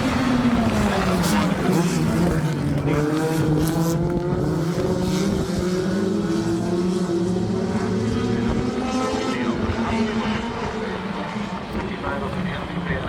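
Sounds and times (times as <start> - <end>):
race car engines running hard: 0.0 - 13.0.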